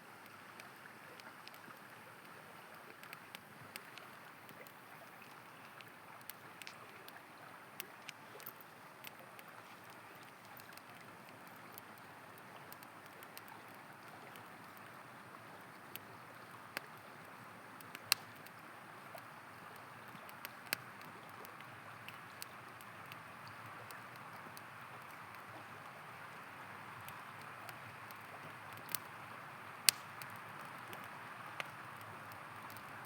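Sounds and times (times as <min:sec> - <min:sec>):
campfire crackling: 0:00.0 - 0:33.0
river flowing: 0:00.0 - 0:33.0.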